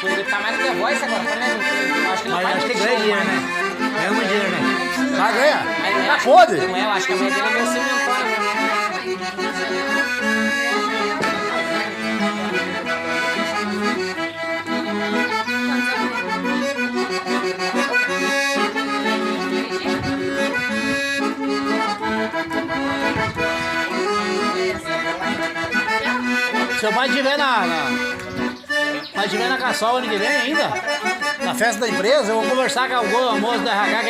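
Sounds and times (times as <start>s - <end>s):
accordion playing lively tune: 0.0s - 34.0s.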